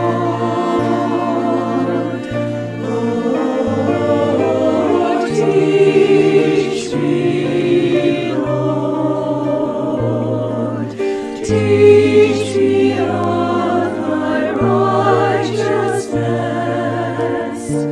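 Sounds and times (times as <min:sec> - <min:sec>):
choir singing held chords: 0:00.0 - 0:17.9.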